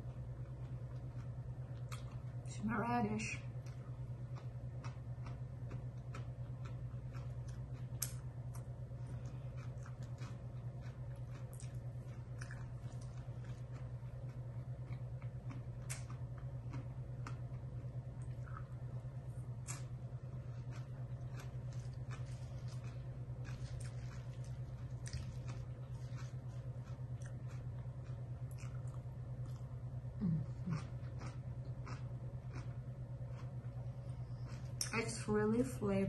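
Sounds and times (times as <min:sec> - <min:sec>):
person chewing crunchy salad: 0:00.0 - 0:02.4, 0:03.5 - 0:18.9, 0:19.6 - 0:34.9
steady low hum: 0:00.0 - 0:36.0.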